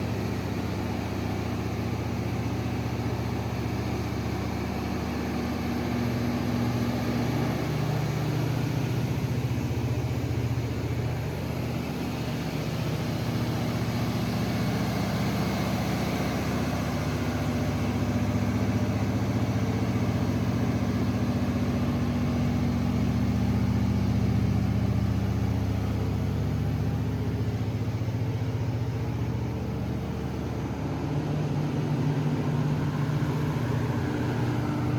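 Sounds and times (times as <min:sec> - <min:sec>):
diesel generator running: 0:00.0 - 0:34.9.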